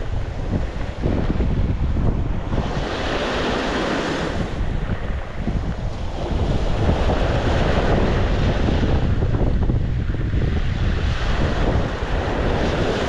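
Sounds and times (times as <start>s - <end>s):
sea waves breaking on shore: 0.0s - 13.0s
wind buffeting microphone: 0.0s - 13.0s.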